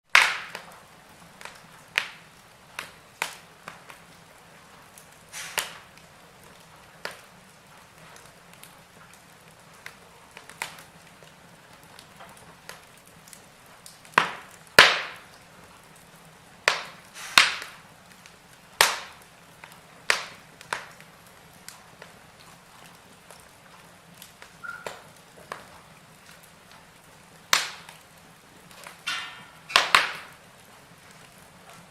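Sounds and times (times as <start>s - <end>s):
burning logs crackling: 0.0s - 31.9s.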